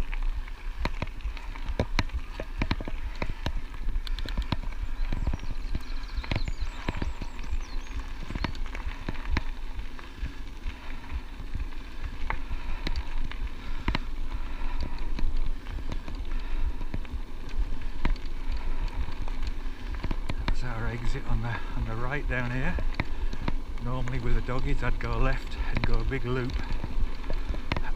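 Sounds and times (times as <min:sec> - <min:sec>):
bicycle tyres rolling on gravel: 0:00.0 - 0:27.9
bike rattling: 0:00.0 - 0:27.9
wind rumble on microphone: 0:00.0 - 0:27.9.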